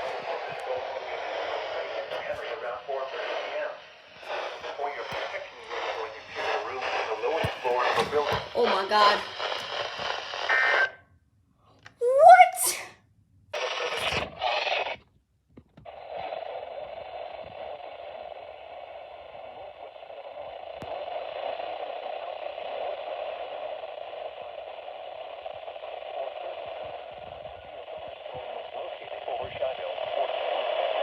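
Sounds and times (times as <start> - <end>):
radio static hiss: 0.0 - 11.0, 13.6 - 15.0, 15.8 - 31.0.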